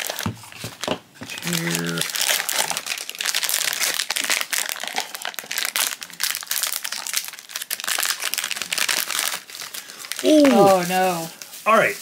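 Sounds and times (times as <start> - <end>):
foil pouch crinkling: 0.0 - 12.0.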